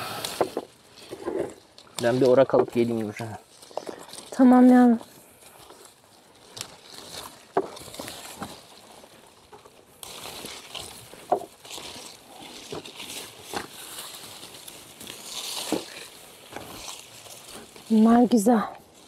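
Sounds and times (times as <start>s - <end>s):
branches snapping: 0.0s - 19.0s
leaves and branches rustling: 0.0s - 19.0s.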